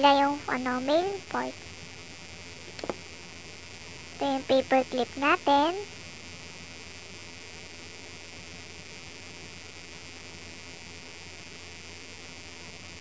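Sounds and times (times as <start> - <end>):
faint hiss: 0.0 - 13.0
low electrical hum: 0.0 - 13.0.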